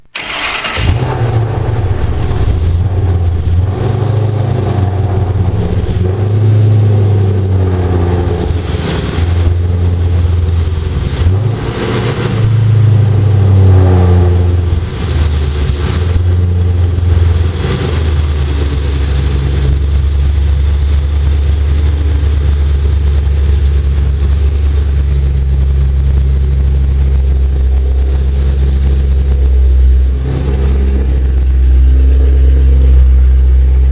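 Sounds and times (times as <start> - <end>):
car engine revving and idling: 0.2 - 33.9.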